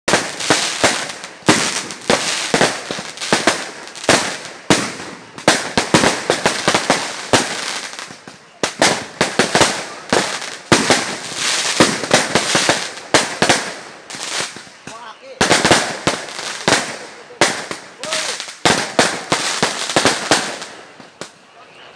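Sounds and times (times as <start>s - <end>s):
fireworks bangs: 0.1s - 21.4s
fireworks crackling: 0.1s - 21.6s.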